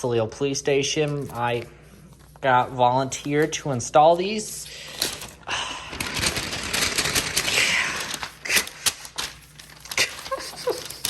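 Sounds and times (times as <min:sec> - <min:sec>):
packaging crinkling: 0:01.0 - 0:11.0.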